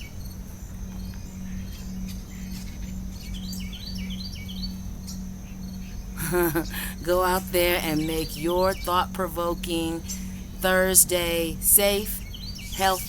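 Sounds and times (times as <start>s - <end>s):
bird chirping: 0.0s - 13.0s
low hum: 0.0s - 13.0s.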